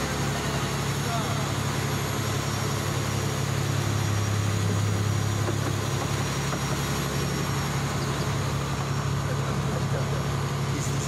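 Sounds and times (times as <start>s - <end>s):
boat engine droning: 0.0s - 11.0s
waves splashing against hull: 0.0s - 11.0s.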